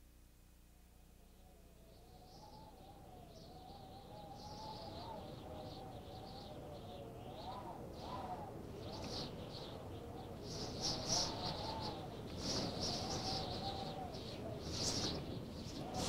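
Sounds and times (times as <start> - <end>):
continuous wavering tone: 0.7 - 16.0
birds chirping: 1.4 - 16.0.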